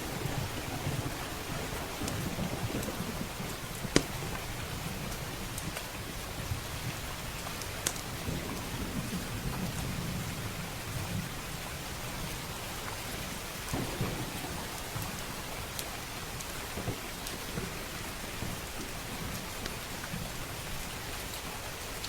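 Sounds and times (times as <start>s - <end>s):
low rolling thunder: 0.0s - 7.4s, 8.1s - 20.8s
fireplace crackles: 0.0s - 9.8s, 11.2s - 22.0s
heavy rain: 0.0s - 22.0s.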